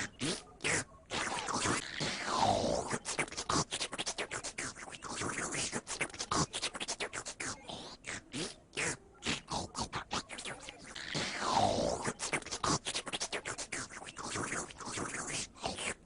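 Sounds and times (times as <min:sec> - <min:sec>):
turntable scratching: 0:00.0 - 0:16.0.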